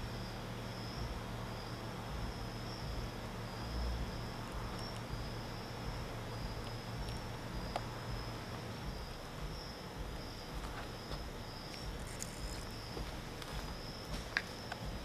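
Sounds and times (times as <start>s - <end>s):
high-pitched insect chirp: 0.0s - 15.0s
steady background hiss: 0.0s - 15.0s.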